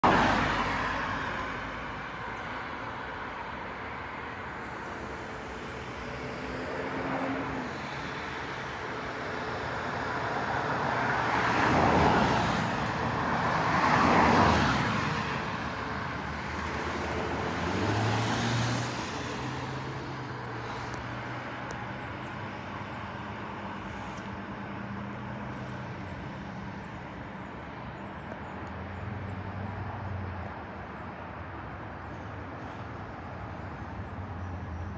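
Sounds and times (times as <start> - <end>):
vehicles passing: 0.0 - 34.9.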